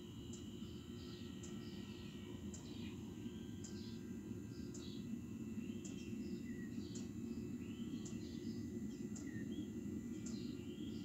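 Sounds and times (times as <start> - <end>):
heater burner and fan rumble: 0.0 - 11.0
bird chirping: 0.3 - 3.0, 3.6 - 11.0.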